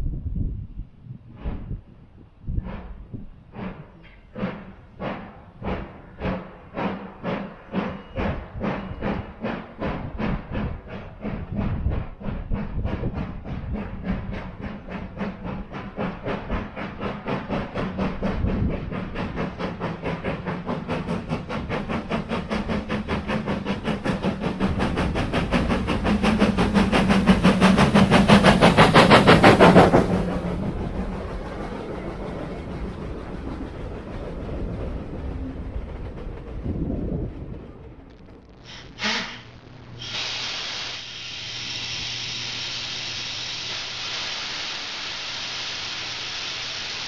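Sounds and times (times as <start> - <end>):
steam locomotive exhaust chuffing: 1.1 - 47.0.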